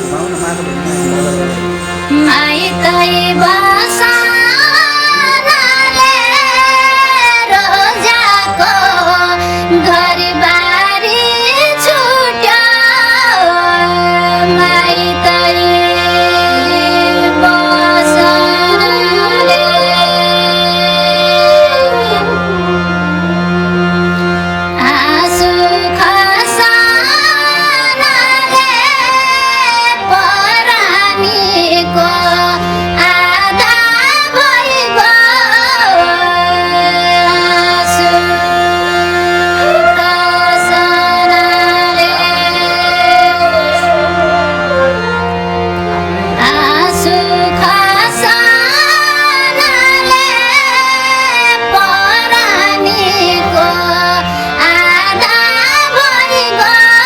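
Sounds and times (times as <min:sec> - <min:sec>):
sustained instrumental chords: 0:00.0 - 0:57.0
wordless singing: 0:00.0 - 0:57.0.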